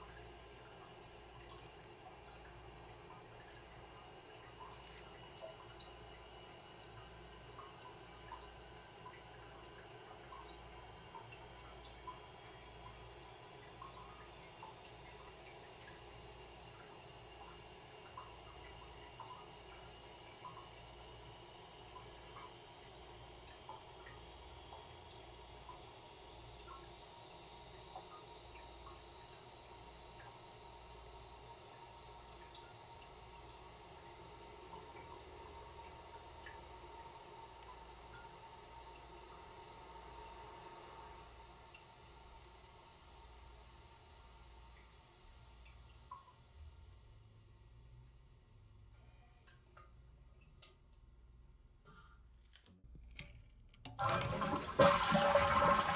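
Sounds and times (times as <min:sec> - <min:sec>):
toilet cistern refilling: 0:00.0 - 0:47.6, 0:52.9 - 0:55.9
small water drips: 0:00.0 - 0:54.2.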